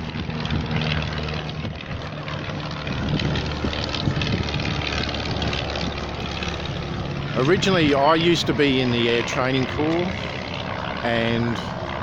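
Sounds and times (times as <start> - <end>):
propeller aircraft engine running: 0.0 - 12.0.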